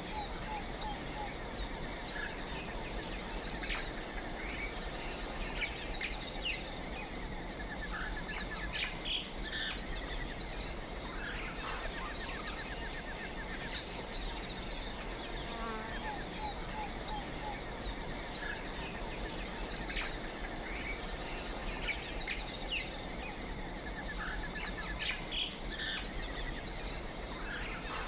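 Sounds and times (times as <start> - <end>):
faint insect hum: 0.0 - 28.0.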